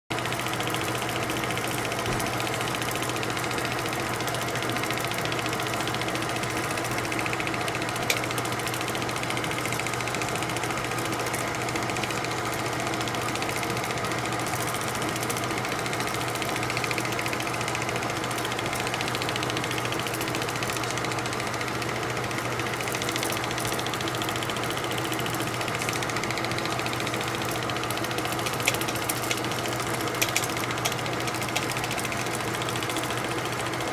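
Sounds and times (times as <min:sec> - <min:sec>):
film projector clattering: 0:00.1 - 0:33.9
motor hum: 0:00.1 - 0:33.9.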